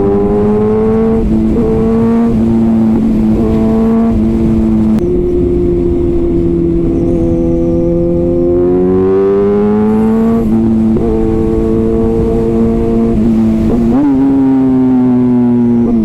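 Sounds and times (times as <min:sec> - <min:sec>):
motorcycle engine at speed: 0:00.0 - 0:16.0
wind rush: 0:00.0 - 0:16.0.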